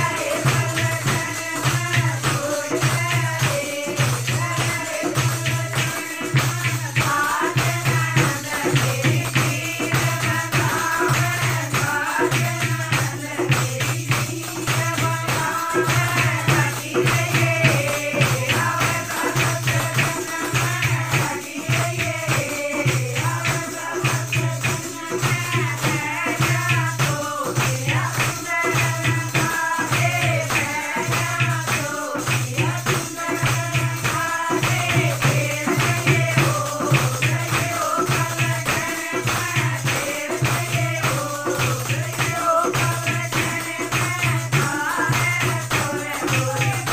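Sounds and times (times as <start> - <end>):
hand-clapping: 0.0 - 46.9
percussion beat: 0.0 - 46.9
women singing together: 0.0 - 46.9.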